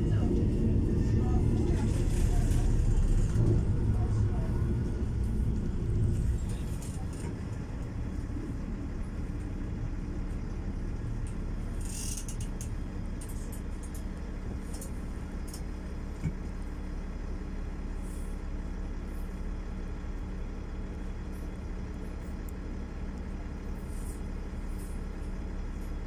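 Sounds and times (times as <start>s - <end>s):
diesel railcar interior rumble: 0.0s - 26.0s.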